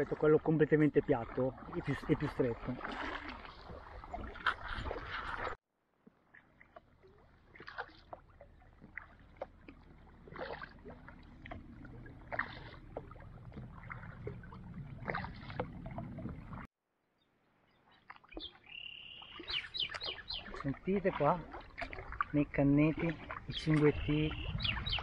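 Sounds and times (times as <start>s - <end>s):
kayak paddles splashing water: 0.0s - 16.7s, 17.8s - 25.0s.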